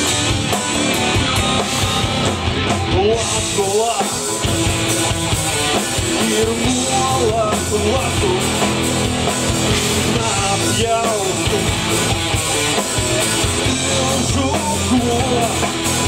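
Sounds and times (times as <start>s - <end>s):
bass guitar: 0.0s - 16.0s
distorted electric guitars: 0.0s - 16.0s
drum kit: 0.0s - 16.0s.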